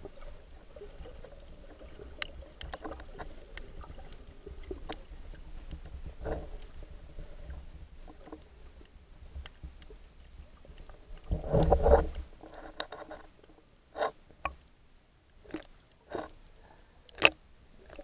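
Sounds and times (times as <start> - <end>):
underwater rumble of moving water: 0.0 - 14.4
faint underwater clicks: 0.0 - 16.4, 17.0 - 18.0.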